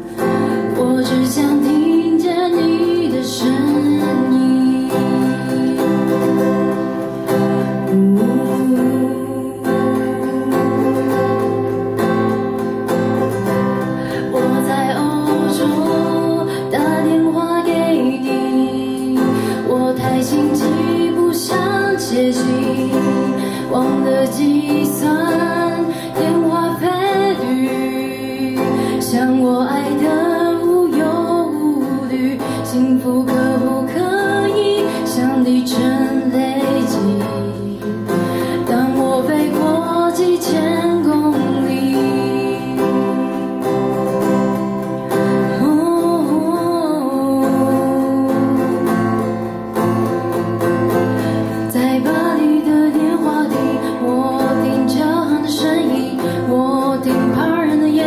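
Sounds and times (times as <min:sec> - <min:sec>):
acoustic guitar: 0:00.0 - 0:58.0
woman singing slow song: 0:00.0 - 0:58.0.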